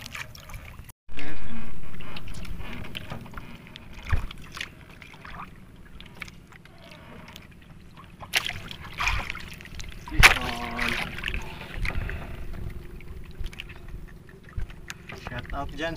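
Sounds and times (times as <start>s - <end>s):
water noise: 0.0s - 15.9s
wind: 0.0s - 15.9s.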